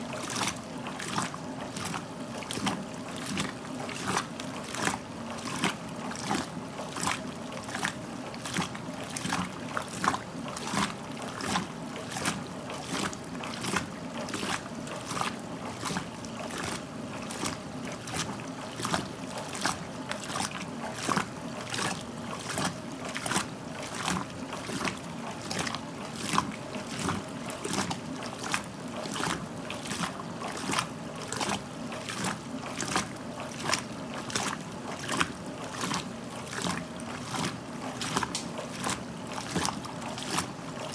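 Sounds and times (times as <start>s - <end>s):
washer motor hum: 0.0s - 40.9s
water splashing in washer drum: 0.0s - 40.9s.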